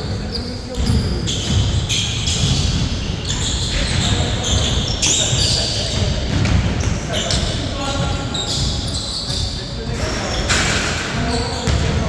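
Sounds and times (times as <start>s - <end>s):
sneakers squeaking on floor: 0.0s - 12.0s
basketball bouncing on court: 0.2s - 12.0s.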